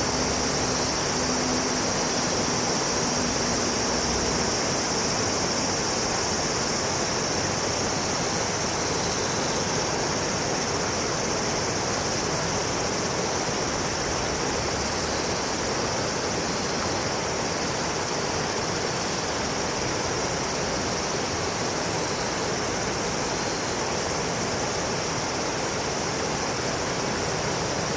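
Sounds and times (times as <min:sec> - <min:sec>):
high hiss: 0:00.0 - 0:27.9
river water rushing: 0:00.0 - 0:27.9.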